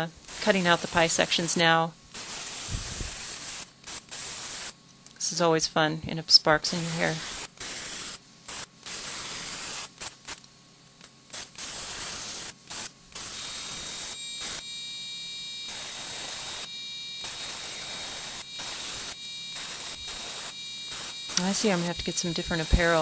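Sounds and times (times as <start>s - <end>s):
plasma cutter hissing: 0.2s - 5.4s, 6.7s - 10.4s, 11.3s - 14.6s, 15.7s - 23.0s.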